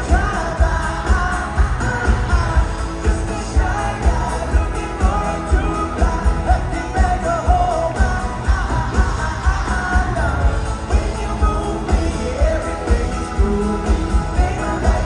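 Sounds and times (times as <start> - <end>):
live pop-rock band playing: 0.0 - 15.0
person singing: 0.0 - 15.0
steady drum beat: 0.0 - 15.0.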